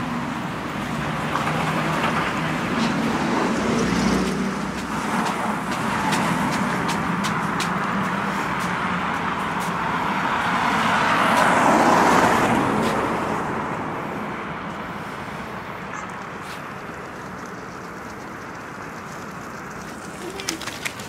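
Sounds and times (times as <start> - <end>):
vehicle passing close by: 0.0 - 20.7
distant traffic hum: 0.0 - 21.0.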